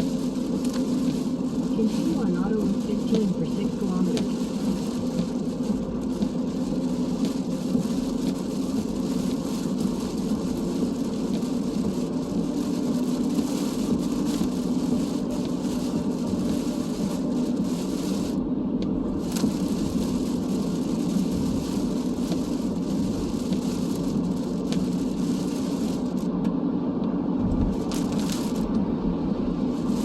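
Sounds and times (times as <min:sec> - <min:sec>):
tyre noise on wet road: 0:00.0 - 0:26.5, 0:27.4 - 0:30.0.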